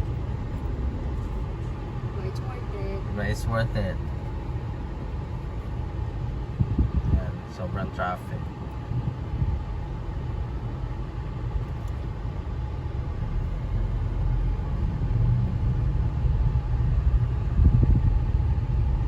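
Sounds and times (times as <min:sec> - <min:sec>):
car engine rumble and road noise: 0:00.0 - 0:19.0.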